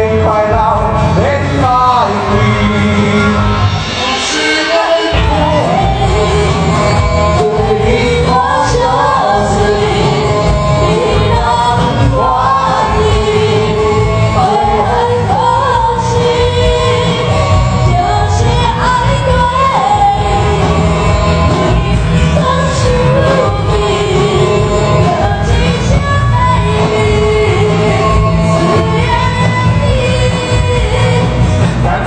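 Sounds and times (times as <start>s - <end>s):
bass: 0.0s - 4.4s, 5.1s - 32.0s
drums: 0.0s - 32.0s
person singing lead melody: 0.0s - 32.0s.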